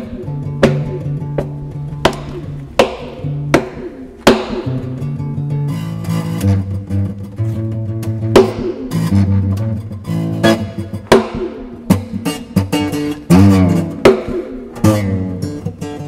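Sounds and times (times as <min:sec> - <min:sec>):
acoustic bass guitar strumming: 0:00.0 - 0:16.0.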